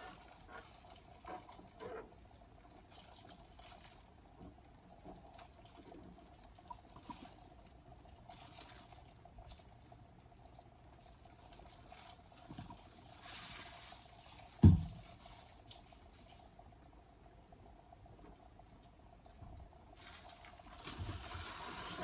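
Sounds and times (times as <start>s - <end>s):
faint liquid patter: 0.0s - 22.0s
faint steady hum: 0.0s - 22.0s.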